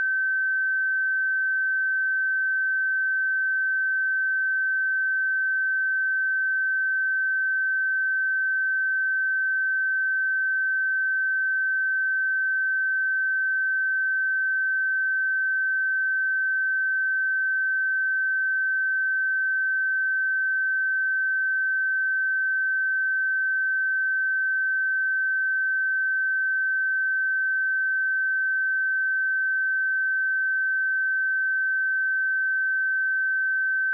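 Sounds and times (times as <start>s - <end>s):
high-pitched sine test tone: 0.0s - 33.9s.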